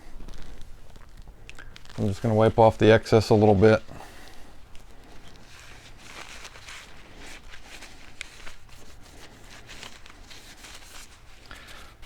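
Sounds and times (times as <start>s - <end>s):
faint rustling: 0.0s - 12.0s
low steady hum: 0.0s - 12.0s.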